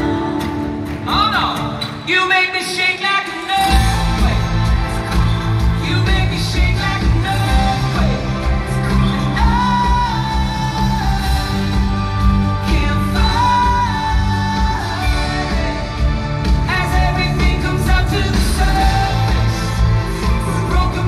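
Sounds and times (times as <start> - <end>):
drums: 0.0 - 21.0
guitars: 0.0 - 21.0
bass: 3.6 - 21.0.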